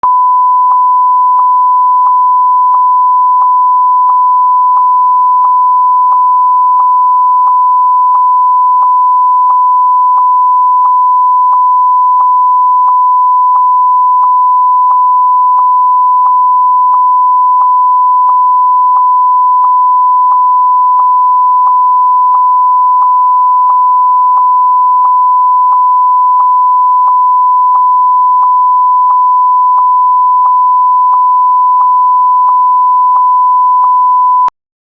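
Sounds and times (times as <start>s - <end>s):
steady sine tone: 0.0s - 34.5s.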